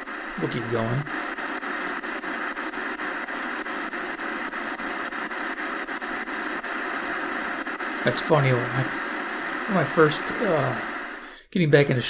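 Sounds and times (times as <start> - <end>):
faint regular ticking: 0.0 - 11.6
shortwave radio static hiss: 0.0 - 12.0.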